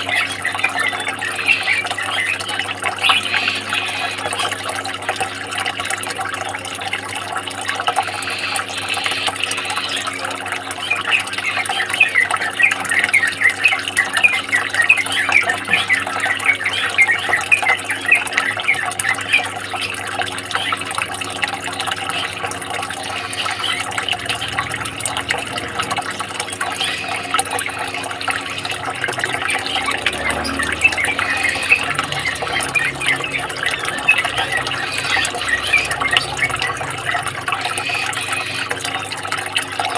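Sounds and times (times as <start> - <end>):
running water: 0.0 - 39.9
songbirds chirping: 0.0 - 39.9.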